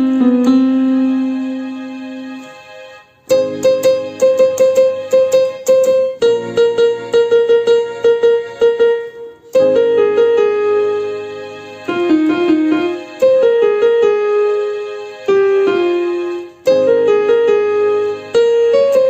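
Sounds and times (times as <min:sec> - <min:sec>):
electronic keyboard melody: 0:00.0 - 0:19.0.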